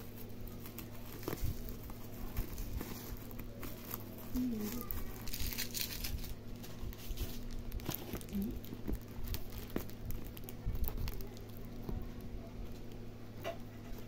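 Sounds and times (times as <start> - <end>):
scissors snipping bubble wrap: 0.0 - 6.4, 7.0 - 12.0
plastic wrap crinkling: 0.0 - 14.0.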